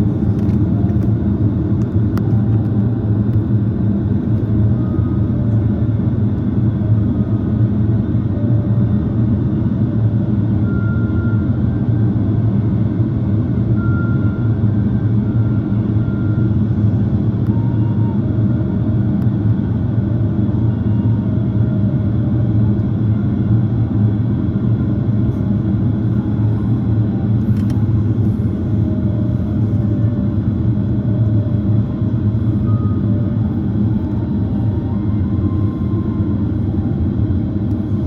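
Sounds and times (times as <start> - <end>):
airliner cabin drone: 0.0 - 38.0.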